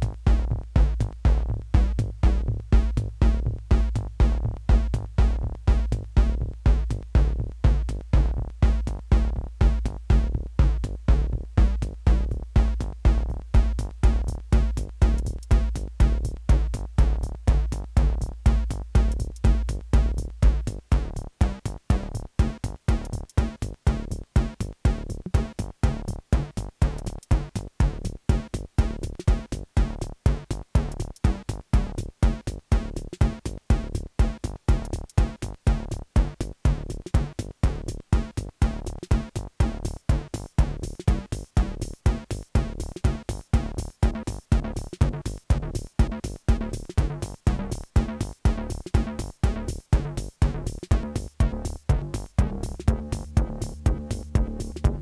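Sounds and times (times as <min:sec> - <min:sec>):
deep synth bass line: 0:00.0 - 0:55.0
hi-hats ticking: 0:00.0 - 0:55.0
kick drum: 0:00.0 - 0:55.0.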